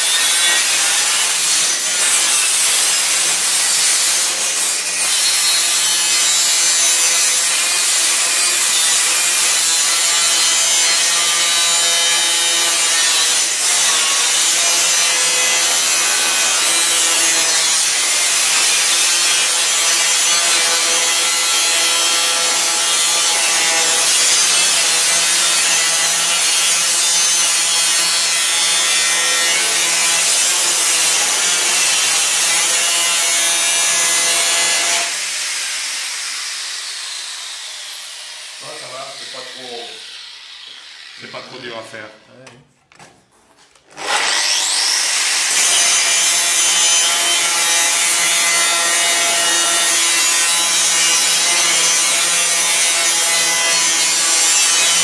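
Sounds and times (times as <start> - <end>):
angle grinder cutting metal: 0.0 - 41.7, 43.9 - 55.0.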